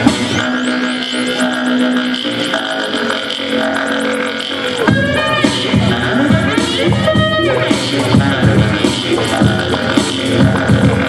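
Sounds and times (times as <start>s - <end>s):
music with heavy bass line: 0.0s - 11.0s.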